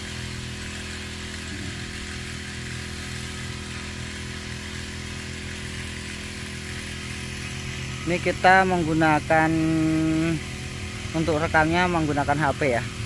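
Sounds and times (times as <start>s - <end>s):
small petrol engine running: 0.0s - 13.0s.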